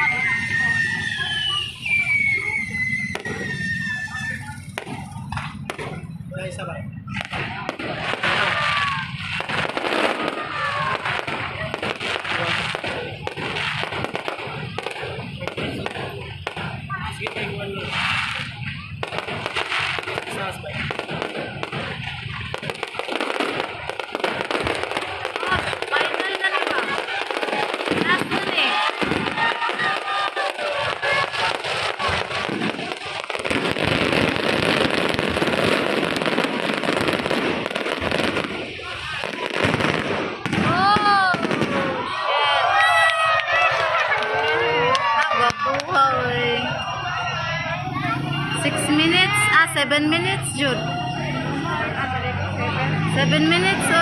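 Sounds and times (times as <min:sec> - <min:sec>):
falling firework whistles: 0:00.0 - 0:06.3, 0:06.9 - 0:43.0, 0:45.0 - 0:51.7
crowd voices: 0:00.0 - 0:54.0
fireworks bangs and crackling: 0:00.0 - 0:54.0.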